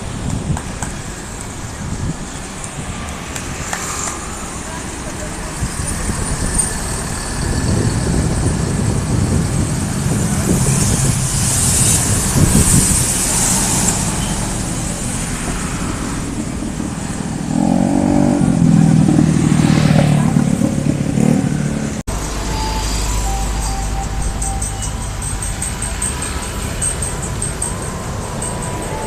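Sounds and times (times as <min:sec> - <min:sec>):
car and motorbike engines: 0:00.0 - 0:29.0
road traffic passing: 0:00.0 - 0:29.0
heavy vehicle engine passing: 0:02.0 - 0:29.0.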